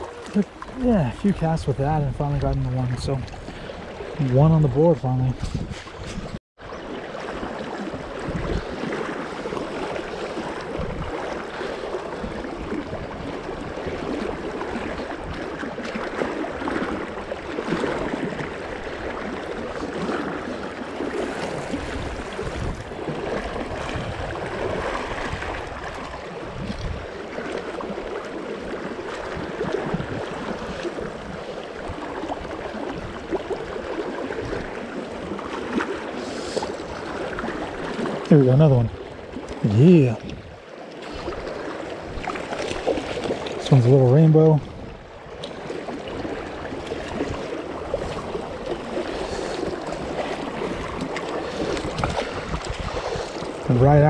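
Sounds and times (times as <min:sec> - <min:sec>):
river water rushing: 0:06.8 - 0:54.0.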